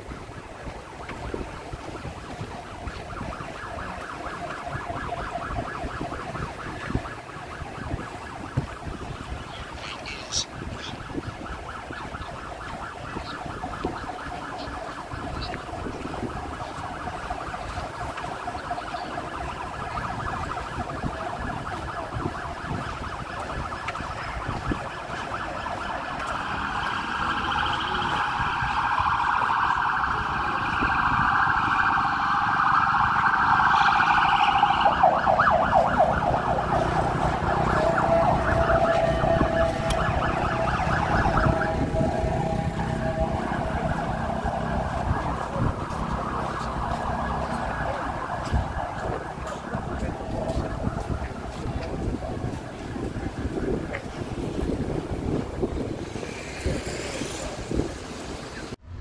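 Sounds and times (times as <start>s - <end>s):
ambulance siren wailing: 0.0s - 58.8s.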